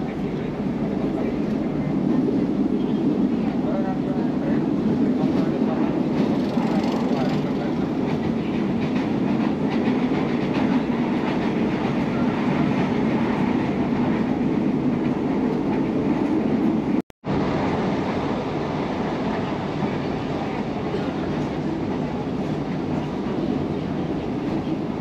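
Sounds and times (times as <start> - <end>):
electric train running inside carriage: 0.0 - 25.0.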